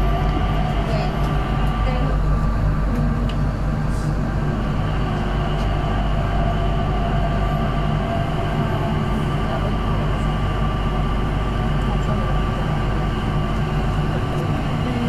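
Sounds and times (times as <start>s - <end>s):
motor hum: 0.0s - 15.0s
train cabin rumble: 0.0s - 15.0s.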